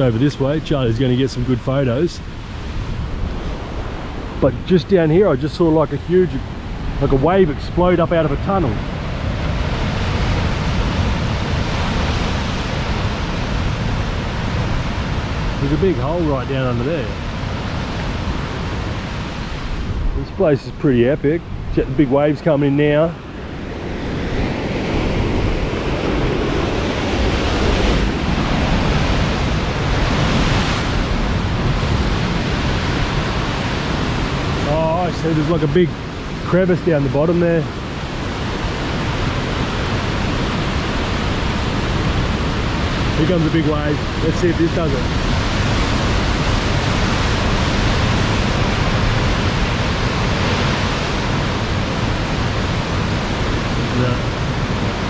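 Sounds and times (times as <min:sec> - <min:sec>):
surf crashing on rocks: 0:00.0 - 0:55.0
wind on microphone: 0:00.0 - 0:55.0.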